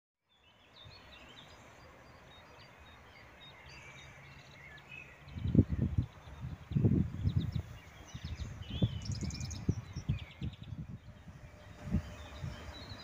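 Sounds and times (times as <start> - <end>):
faint birdsong: 0.2 - 13.0.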